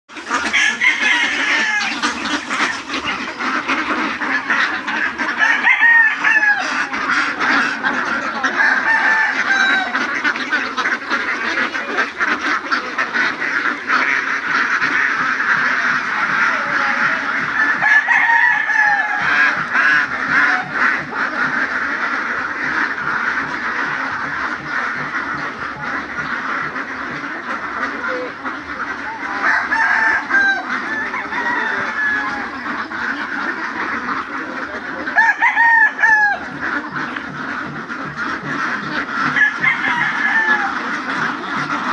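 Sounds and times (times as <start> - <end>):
flock of ducks quacking: 0.1 - 41.9.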